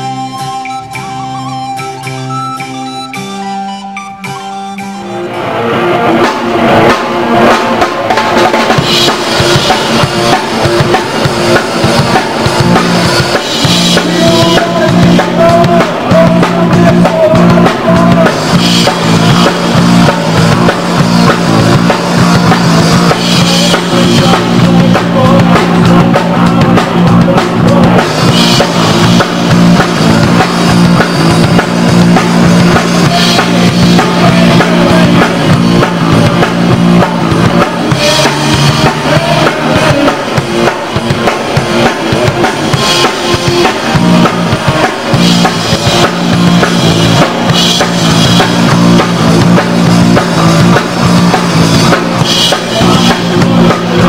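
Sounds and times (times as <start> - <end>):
drum kit beat: 0.0 - 54.0
electric guitars: 0.0 - 54.0.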